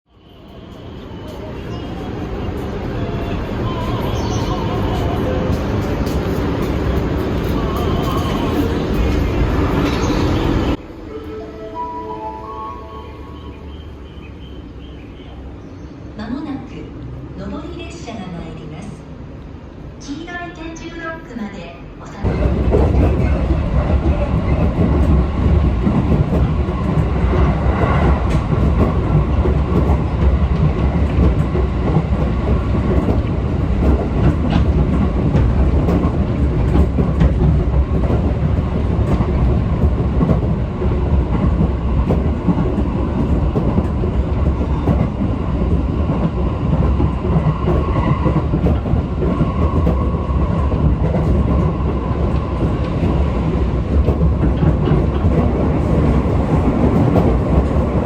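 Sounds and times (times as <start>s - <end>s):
train rumbling on rails: 0.1s - 58.0s.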